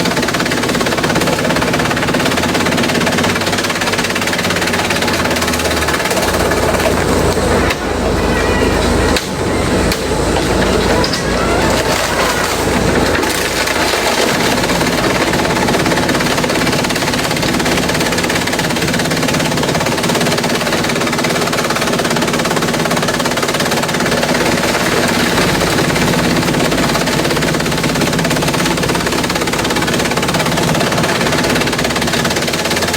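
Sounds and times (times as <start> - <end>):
low machine drone: 0.0 - 32.9
shredder rapid clatter: 0.0 - 32.9.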